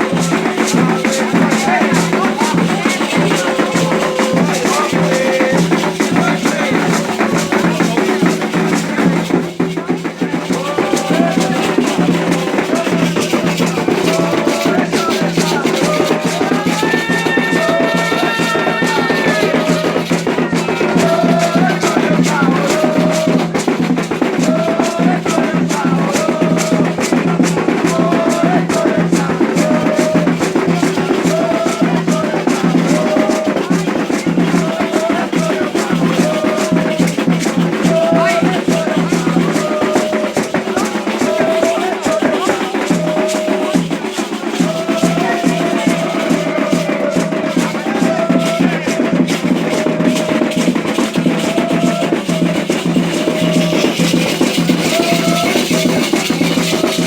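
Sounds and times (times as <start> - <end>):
hand drums: 0.0 - 57.0
voices singing: 0.0 - 57.0.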